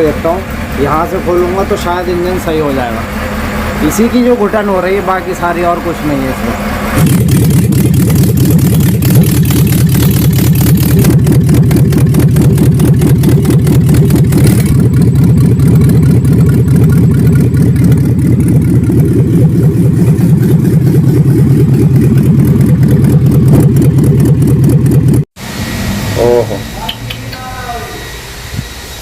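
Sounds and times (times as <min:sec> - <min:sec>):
engine running rough: 0:00.0 - 0:29.0.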